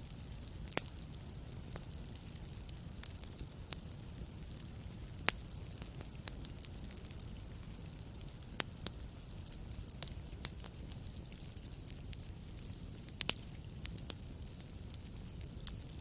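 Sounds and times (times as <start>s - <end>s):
fire hiss and rumble: 0.0s - 16.0s
wood fire crackling: 0.0s - 16.0s.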